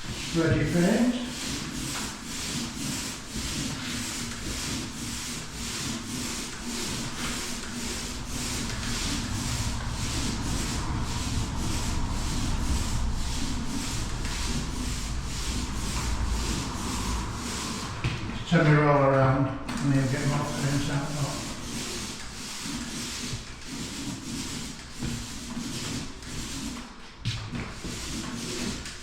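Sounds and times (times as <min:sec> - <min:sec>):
paint roller swishing on wall: 0:00.0 - 0:18.6, 0:19.7 - 0:29.0.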